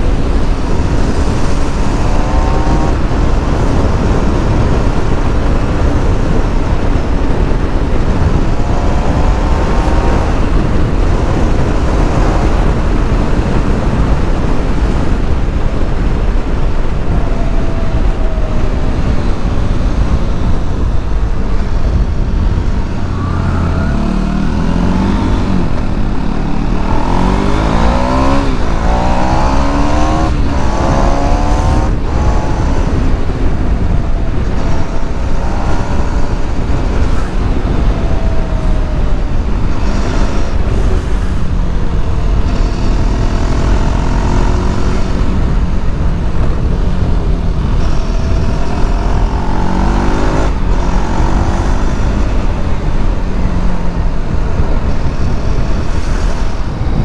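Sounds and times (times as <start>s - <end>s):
motorcycle engine accelerating: 0.0s - 57.0s
wind rumble on microphone: 0.0s - 57.0s.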